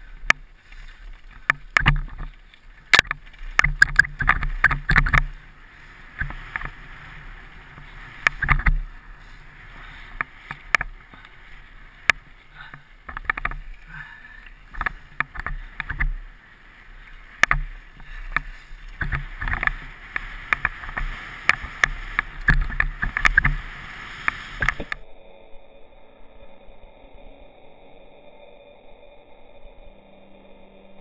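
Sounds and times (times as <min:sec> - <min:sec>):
gear knocking and rattling: 0:00.0 - 0:25.0
steady rushing hiss: 0:00.0 - 0:25.1.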